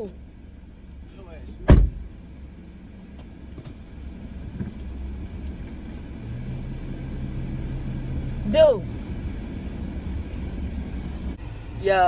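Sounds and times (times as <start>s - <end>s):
car rumble inside cabin: 0.0s - 12.0s.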